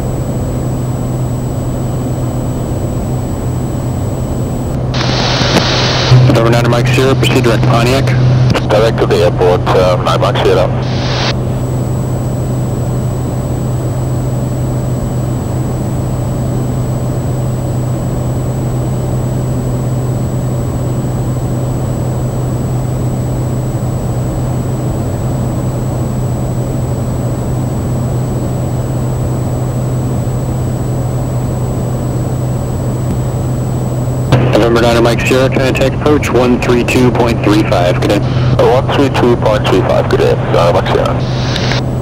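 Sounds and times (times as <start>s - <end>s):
thin high whine: 0.0s - 42.0s
turboprop engine droning: 0.0s - 42.0s.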